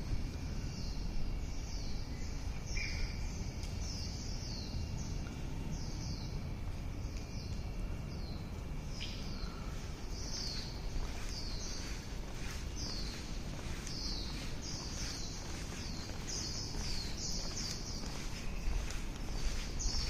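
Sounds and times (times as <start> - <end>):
birds chirping: 0.6 - 20.0.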